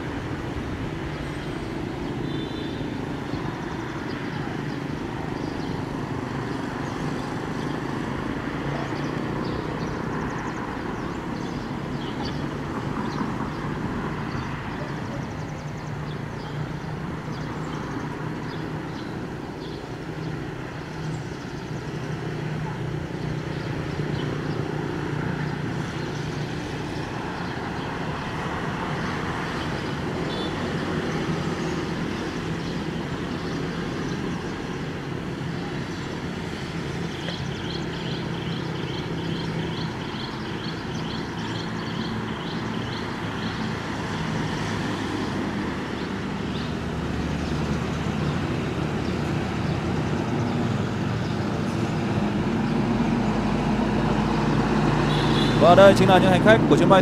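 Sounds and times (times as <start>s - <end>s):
engines idling hum: 0.0s - 57.0s.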